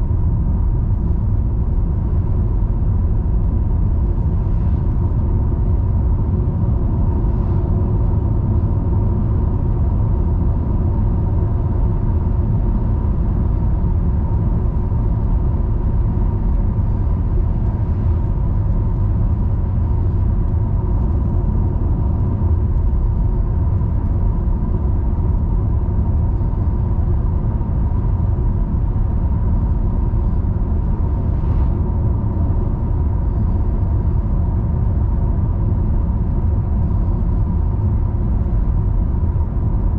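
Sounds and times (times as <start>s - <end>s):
car engine and road noise: 0.0s - 39.9s
faint steady hum: 0.0s - 39.9s.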